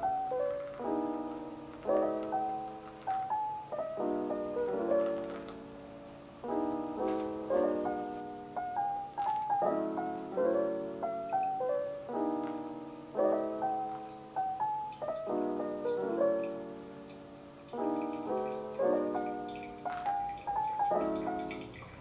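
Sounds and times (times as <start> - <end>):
soft lo-fi piano piece: 0.0 - 22.0.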